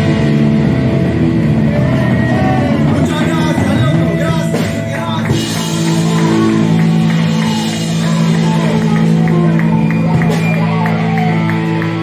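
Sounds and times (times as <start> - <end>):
punk rock band playing: 0.0 - 12.0.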